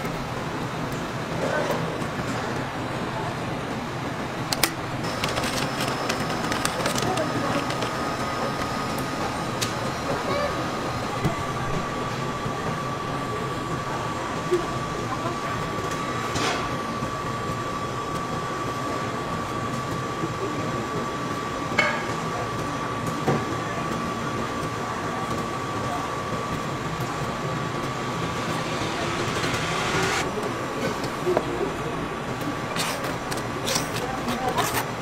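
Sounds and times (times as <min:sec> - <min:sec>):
mechanical hum with high whine: 0:00.0 - 0:35.0.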